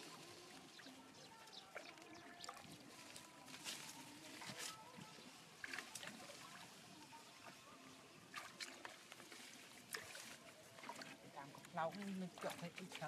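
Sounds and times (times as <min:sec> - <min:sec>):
water trickling and dripping: 0:00.0 - 0:03.6, 0:04.2 - 0:13.0
short water splashes: 0:00.0 - 0:06.8, 0:08.2 - 0:13.0.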